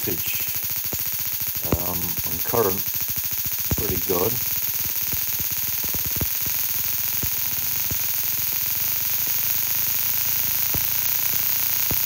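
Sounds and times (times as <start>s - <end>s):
spark cracks: 0.0s - 12.0s
steady hiss: 0.0s - 12.0s.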